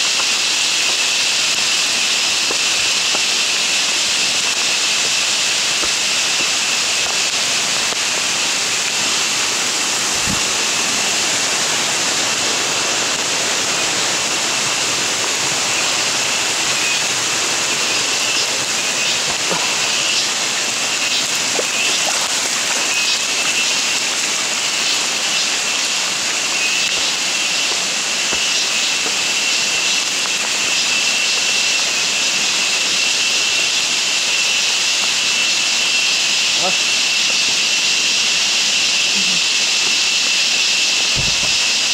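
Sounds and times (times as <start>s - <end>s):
heavy rain: 0.0s - 41.9s
running stream: 0.0s - 41.9s.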